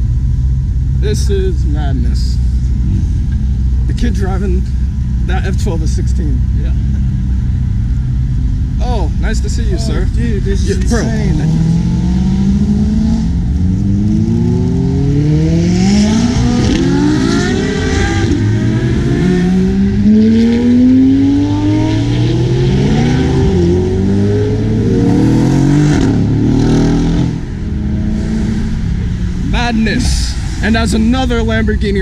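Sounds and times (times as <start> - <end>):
sports car engines revving: 0.0 - 32.0.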